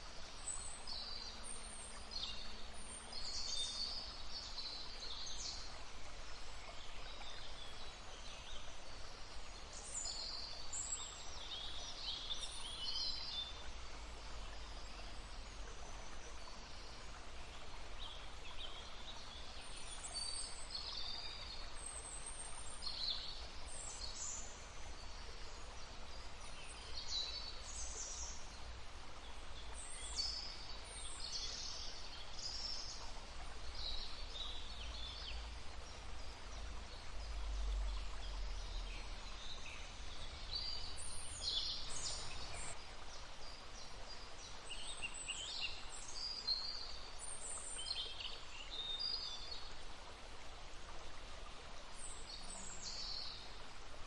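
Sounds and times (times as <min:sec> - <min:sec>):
songbirds chirping and trilling: 0:00.0 - 0:49.7
flowing brook: 0:00.0 - 0:54.0.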